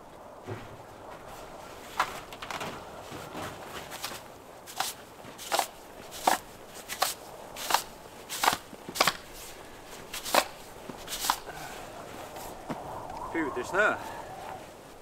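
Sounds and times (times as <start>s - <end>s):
footsteps crunching in snow: 0.1s - 15.0s.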